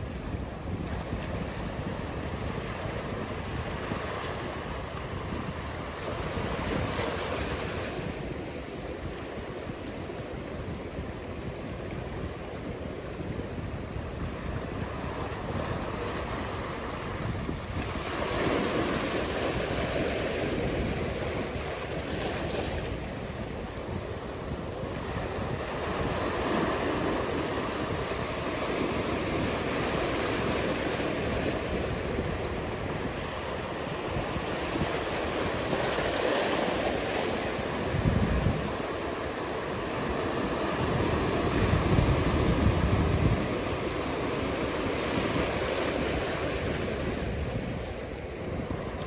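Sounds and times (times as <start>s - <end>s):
ocean surf washing: 0.0s - 49.0s
wind buffeting microphone: 0.0s - 49.0s.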